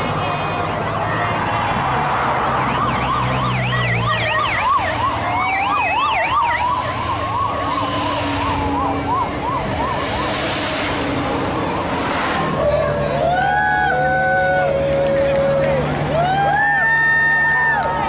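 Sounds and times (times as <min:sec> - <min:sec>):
sirens yelping: 0:00.0 - 0:18.0
siren wailing: 0:00.6 - 0:15.4.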